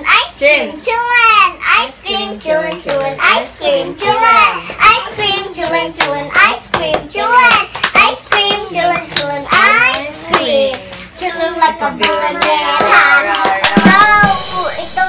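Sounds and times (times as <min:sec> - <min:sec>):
girl chattering sing-song: 0:00.0 - 0:15.0.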